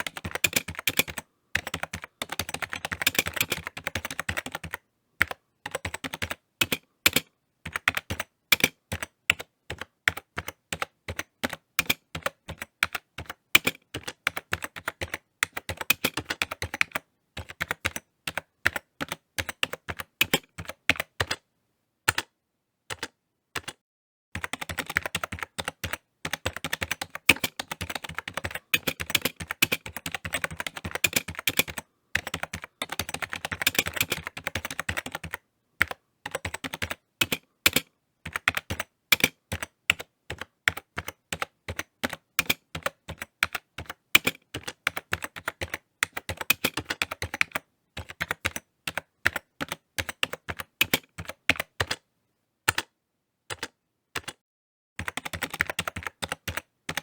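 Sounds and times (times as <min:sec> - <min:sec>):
typing on computer keyboard: 0:00.0 - 0:21.4, 0:22.1 - 0:22.3, 0:22.9 - 0:23.8, 0:24.4 - 0:52.0, 0:52.7 - 0:54.4, 0:55.0 - 0:57.0.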